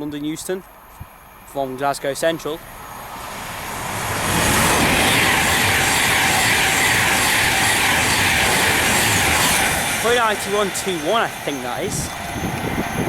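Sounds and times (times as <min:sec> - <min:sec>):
electric train passing at speed: 0:00.4 - 0:13.0.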